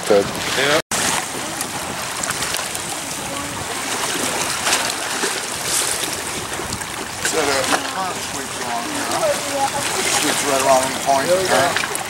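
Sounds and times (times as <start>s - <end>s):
waves lapping: 0.0s - 12.0s
wind on microphone: 0.0s - 12.0s.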